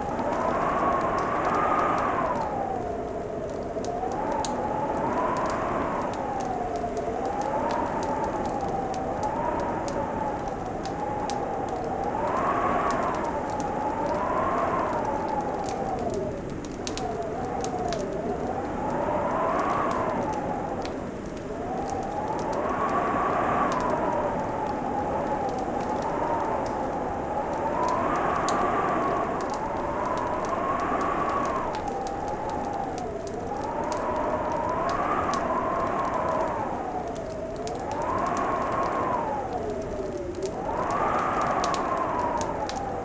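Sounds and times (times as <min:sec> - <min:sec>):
whistling wind howl: 0:00.0 - 0:43.0
wood fire crackling and popping: 0:00.0 - 0:43.0.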